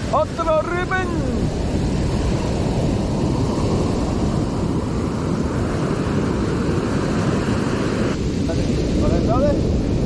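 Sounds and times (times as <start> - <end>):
surf breaking on beach: 0.0 - 10.0
wind rumble on microphone: 0.0 - 10.0.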